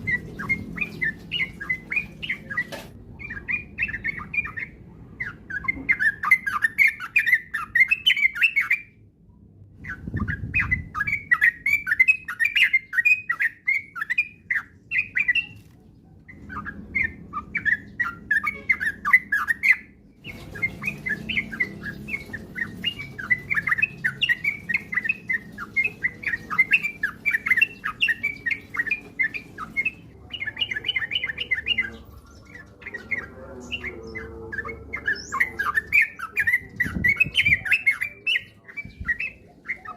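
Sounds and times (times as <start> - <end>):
bird chattering song: 0.0 - 9.0, 9.8 - 39.9.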